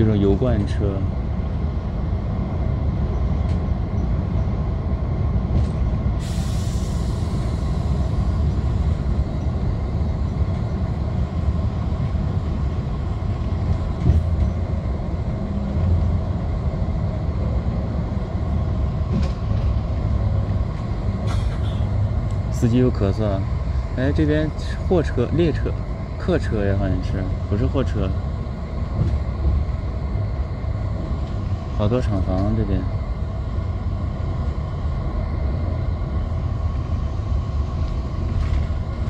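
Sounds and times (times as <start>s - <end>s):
coach road and engine rumble: 0.0s - 39.0s.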